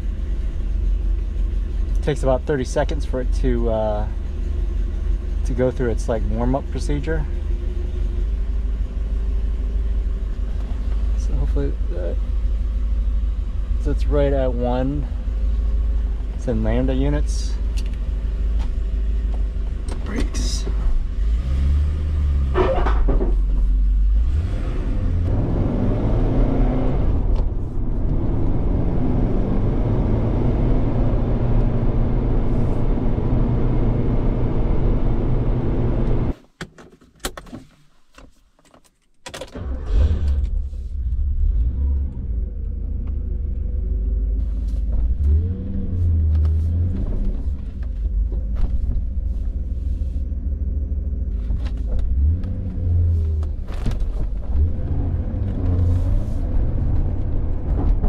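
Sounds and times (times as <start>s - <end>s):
car engine low rumble: 0.0s - 36.5s, 39.5s - 58.0s.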